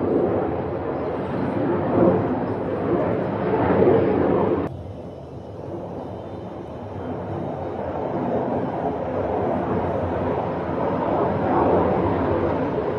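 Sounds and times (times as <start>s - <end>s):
fighter jet engine rush: 0.0s - 12.9s.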